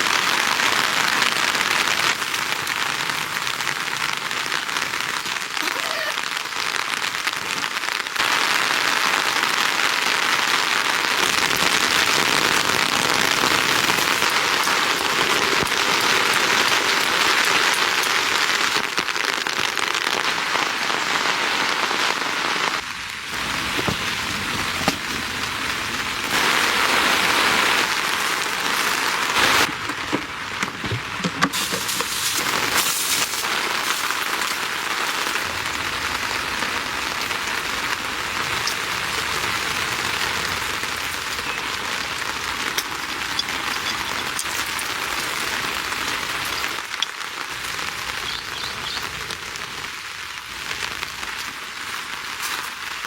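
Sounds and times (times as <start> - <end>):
heavy rain pattering: 0.0 - 53.0.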